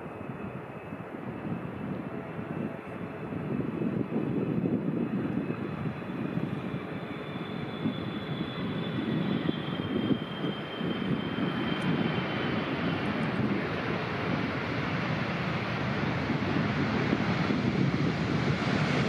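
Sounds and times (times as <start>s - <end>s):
jet engine whine: 0.0s - 19.0s
jet engines rumbling: 0.0s - 19.0s.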